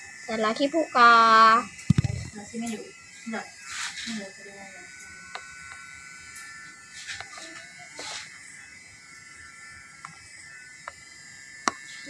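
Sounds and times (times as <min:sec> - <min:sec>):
electric hair clipper buzzing: 0:00.0 - 0:12.0.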